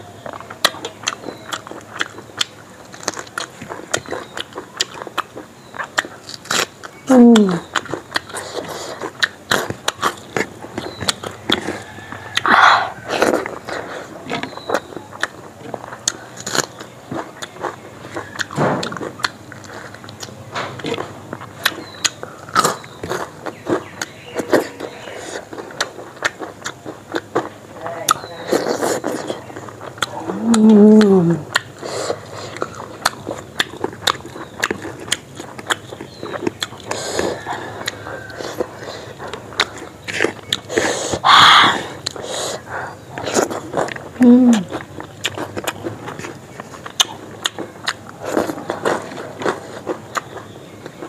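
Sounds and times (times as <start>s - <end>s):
crunching bite: 0.2s - 51.0s
person biting and chewing food: 0.2s - 51.0s.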